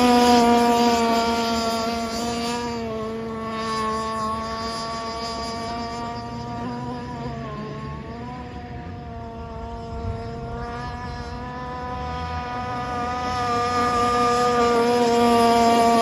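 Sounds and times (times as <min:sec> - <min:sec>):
small two-stroke engine buzzing: 0:00.0 - 0:16.0.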